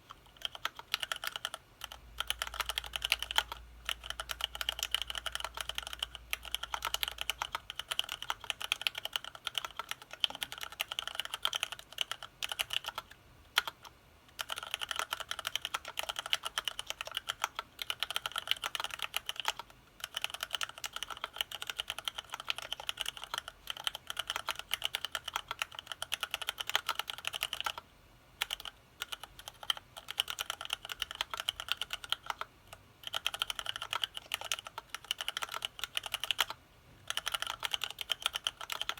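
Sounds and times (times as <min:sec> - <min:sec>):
fast typing on mechanical keyboard: 0:00.0 - 0:27.8, 0:28.4 - 0:38.9.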